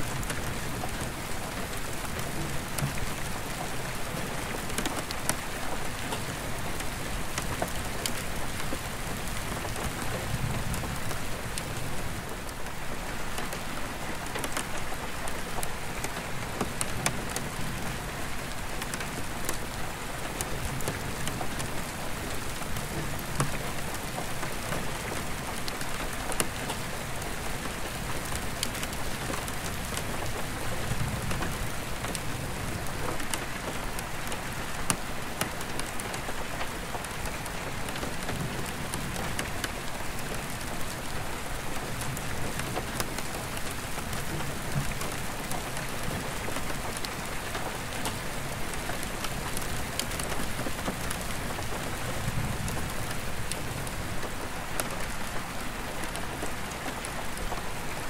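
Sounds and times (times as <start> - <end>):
rain drumming on skylight: 0.0 - 58.0.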